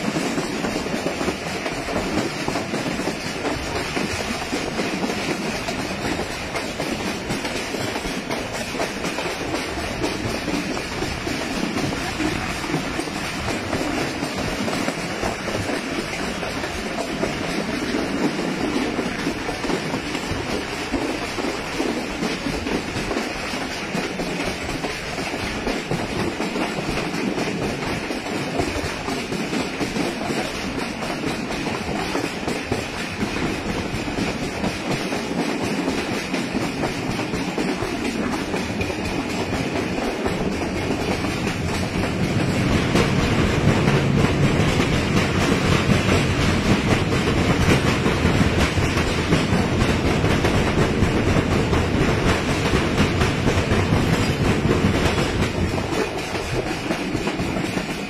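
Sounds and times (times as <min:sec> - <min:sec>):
train wheels running on rails: 0:00.0 - 0:58.0.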